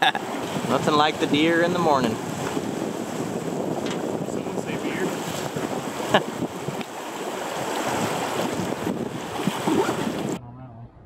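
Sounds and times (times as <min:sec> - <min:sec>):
river water rushing: 0:00.0 - 0:03.7, 0:05.0 - 0:10.4
wind on microphone: 0:00.0 - 0:11.0.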